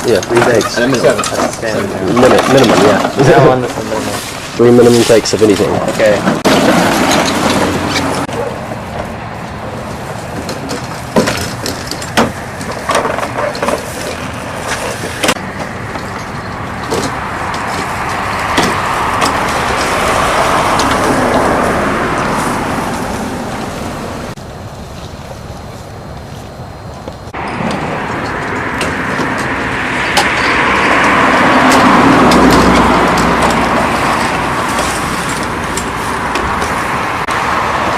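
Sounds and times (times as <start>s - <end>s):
vehicle engine rumbling: 0.0s - 37.9s.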